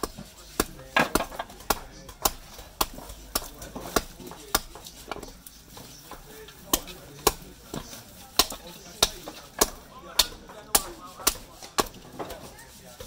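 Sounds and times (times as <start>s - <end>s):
hatchet chopping wood: 0.0s - 13.0s.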